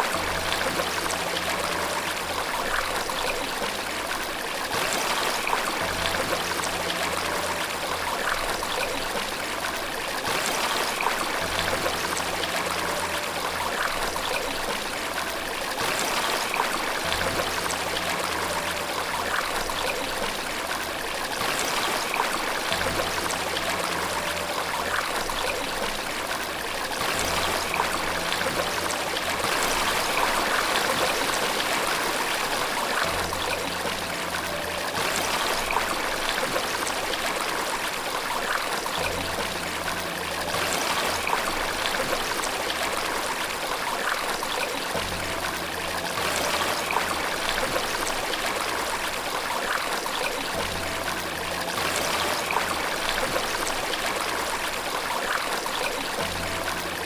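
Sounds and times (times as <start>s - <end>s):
faint low sustained notes: 0.0s - 57.0s
water rushing and trickling: 0.0s - 57.0s.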